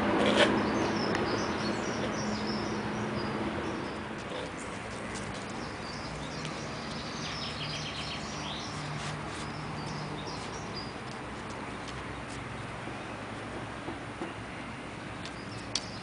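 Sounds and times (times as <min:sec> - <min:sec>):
small birds chirping: 0:00.4 - 0:13.1, 0:15.1 - 0:16.0.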